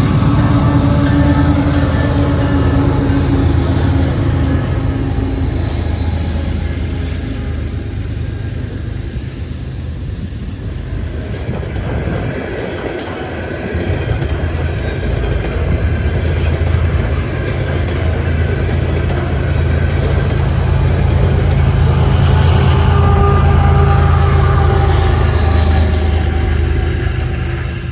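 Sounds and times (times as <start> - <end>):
freight train rumbling: 0.0 - 27.9.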